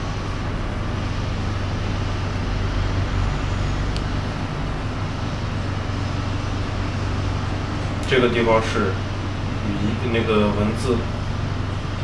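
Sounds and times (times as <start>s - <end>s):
room noise rumble and hiss: 0.0s - 12.0s.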